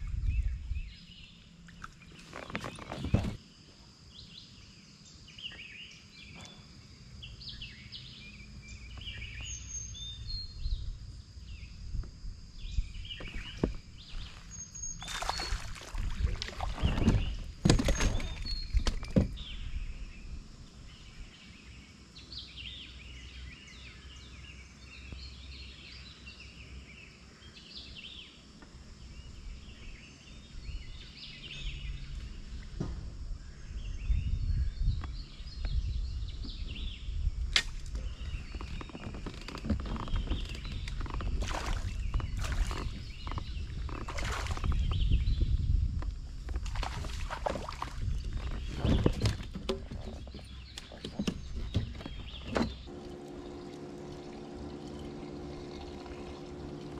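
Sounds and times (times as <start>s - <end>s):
birds singing: 0.0s - 56.9s.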